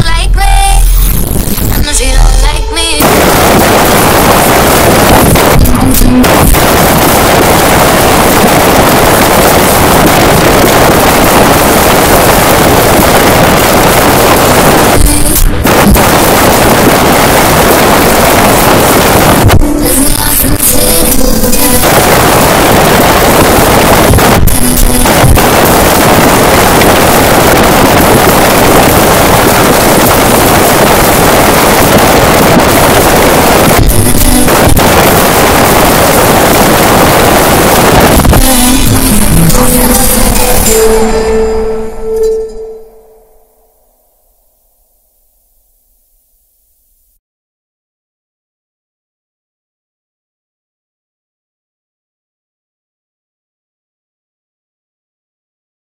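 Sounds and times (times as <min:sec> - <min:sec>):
heavily distorted song: 0:00.0 - 0:45.1.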